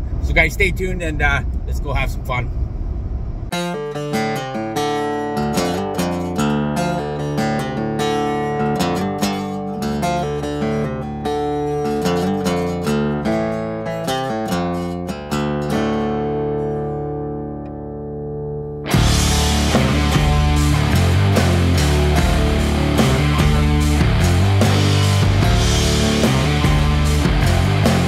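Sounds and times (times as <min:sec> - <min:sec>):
acoustic guitar plucked notes: 0:03.5 - 0:28.0.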